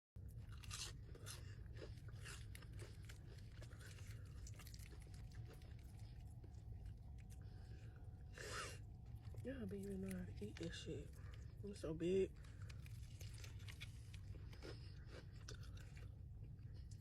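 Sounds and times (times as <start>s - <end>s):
chewing crispy fried chicken: 0.2s - 17.0s.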